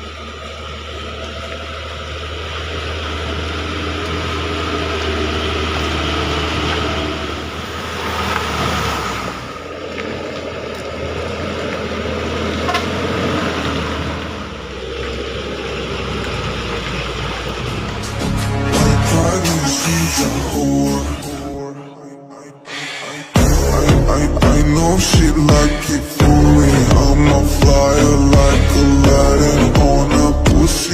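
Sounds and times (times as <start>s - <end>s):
diesel truck engine under load: 0.0s - 21.6s, 23.4s - 30.9s.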